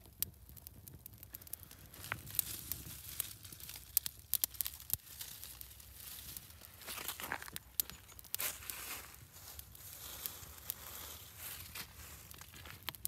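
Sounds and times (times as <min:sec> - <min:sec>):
campfire snapping and crackling: 0:00.0 - 0:13.0.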